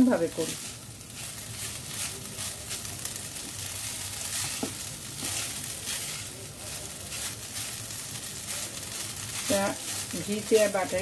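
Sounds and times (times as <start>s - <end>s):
rice sizzling in a pan: 0.0s - 11.0s
spatula stirring: 0.0s - 11.0s.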